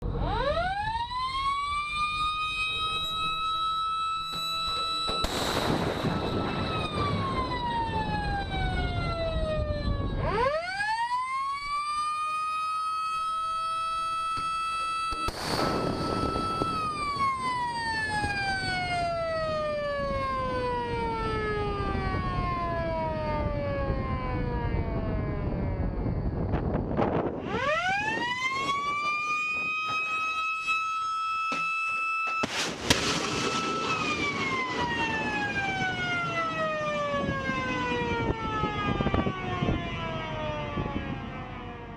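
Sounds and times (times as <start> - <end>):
motor-driven warning siren wailing: 0.0 - 41.9.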